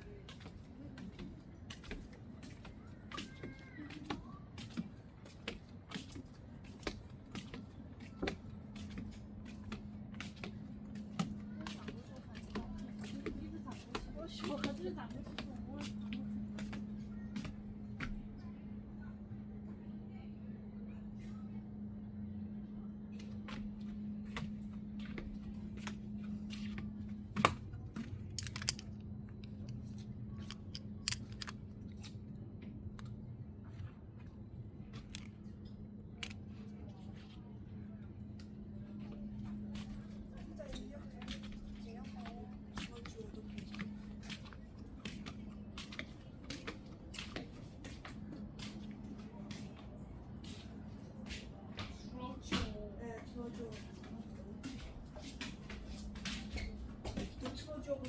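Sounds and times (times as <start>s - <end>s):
low steady hum: 5.7s - 58.0s.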